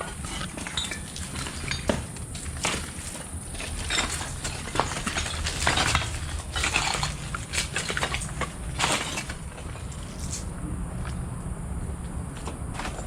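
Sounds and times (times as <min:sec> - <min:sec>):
knocks and scrapes: 0:00.0 - 0:11.2, 0:12.3 - 0:13.0
steady low hum: 0:00.0 - 0:13.0.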